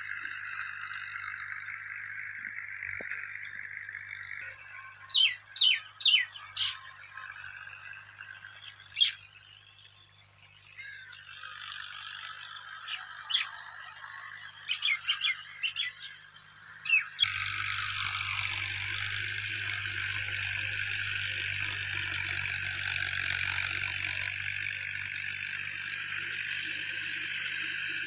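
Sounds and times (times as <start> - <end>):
birds calling: 0.0 - 28.0.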